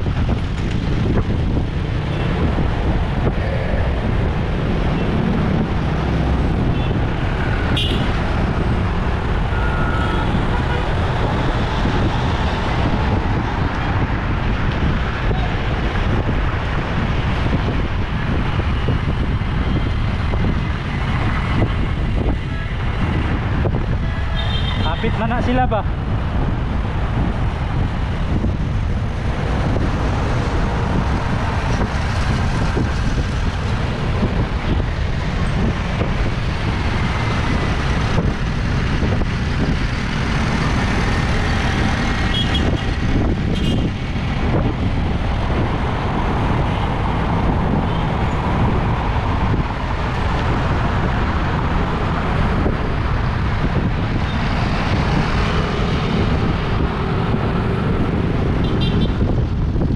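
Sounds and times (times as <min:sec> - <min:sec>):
motor traffic: 0:00.0 - 0:59.9
wind rushing on microphone: 0:00.0 - 0:59.9.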